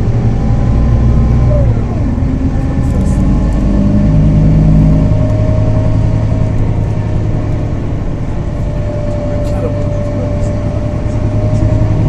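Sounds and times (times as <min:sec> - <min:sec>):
bus diesel engine: 0:00.0 - 0:12.0
steady whine: 0:00.0 - 0:12.0.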